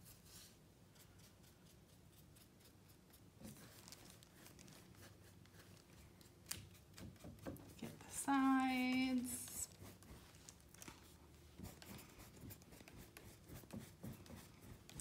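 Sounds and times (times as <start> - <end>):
paintbrush stroking canvas: 0.0 - 15.0.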